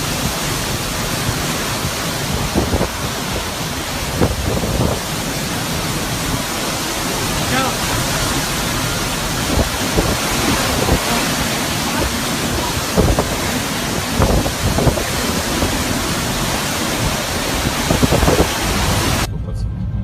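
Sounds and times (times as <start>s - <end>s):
storm wind and rain: 0.0s - 19.3s.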